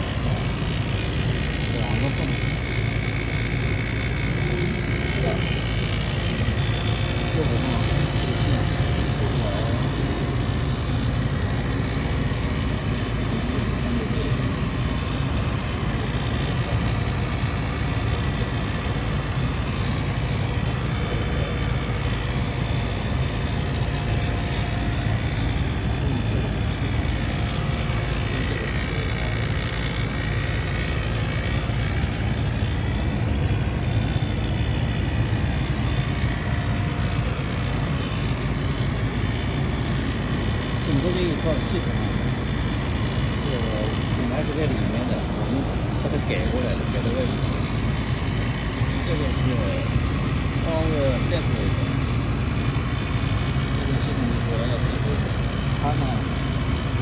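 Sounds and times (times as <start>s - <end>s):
air conditioner hum and fan rush: 0.0s - 57.0s.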